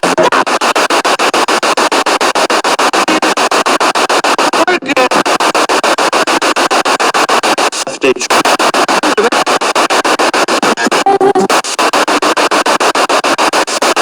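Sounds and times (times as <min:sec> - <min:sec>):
pulsing radio static: 0:00.0 - 0:14.0
scraps of radio broadcast: 0:00.0 - 0:14.0.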